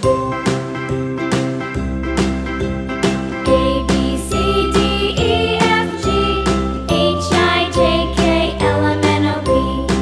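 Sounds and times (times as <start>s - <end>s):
children's music with tinkling melody: 0.0s - 10.0s.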